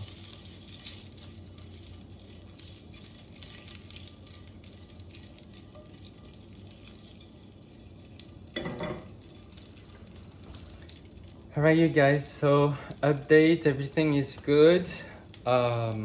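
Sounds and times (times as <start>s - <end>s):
sausages sizzling in a frying pan: 0.0s - 16.0s.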